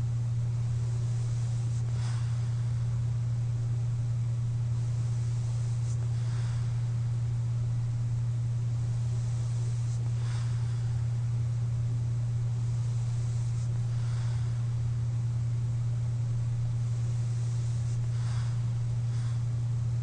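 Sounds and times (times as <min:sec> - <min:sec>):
faint airy breaths: 0:00.0 - 0:20.0
steady low hum: 0:00.0 - 0:20.0.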